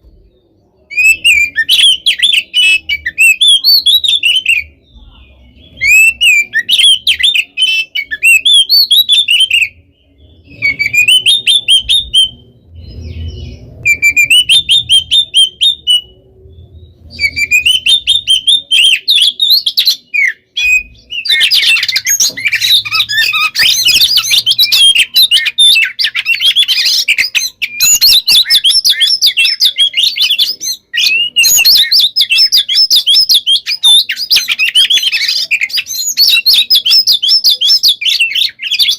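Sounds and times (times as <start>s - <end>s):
magpie-robin singing whistles and trills: 0.1s - 38.9s.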